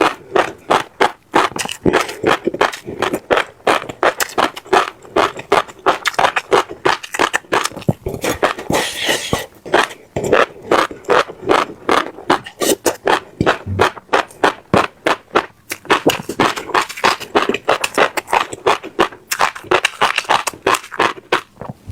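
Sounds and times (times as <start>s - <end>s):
chewing crunchy food: 0.0s - 21.9s.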